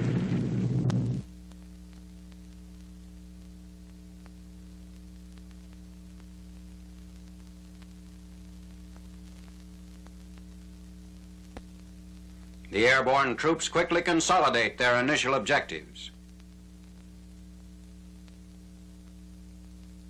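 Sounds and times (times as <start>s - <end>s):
faint crackles: 0.0s - 20.0s
steady electrical hum: 0.0s - 20.0s.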